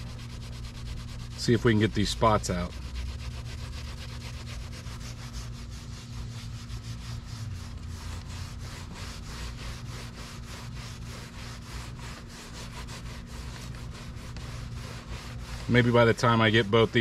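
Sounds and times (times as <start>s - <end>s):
steady low hum: 0.0s - 17.0s
towel scrubbing fabric: 0.0s - 17.0s.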